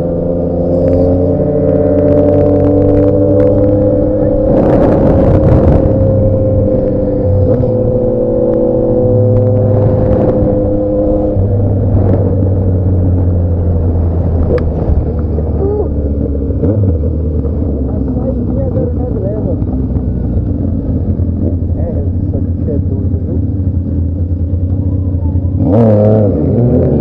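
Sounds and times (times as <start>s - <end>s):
rushes of noise: 0.0s - 24.8s
motorcycle engine running: 0.0s - 27.0s.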